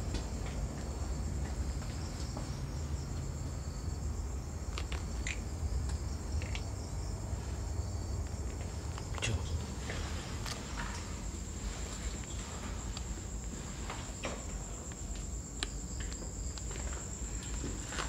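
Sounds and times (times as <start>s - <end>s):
night insects chirping: 0.0s - 18.0s.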